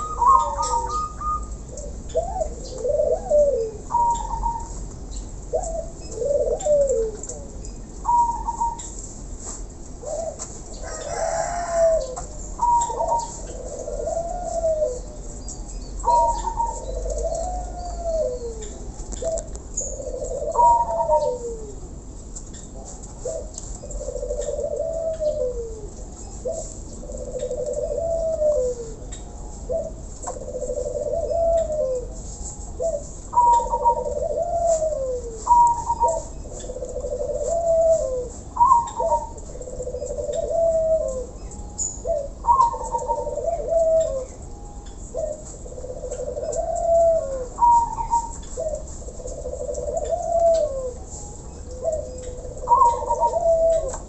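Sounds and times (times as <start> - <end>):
doves cooing: 0.0 - 9.0, 9.8 - 22.1, 22.7 - 54.0.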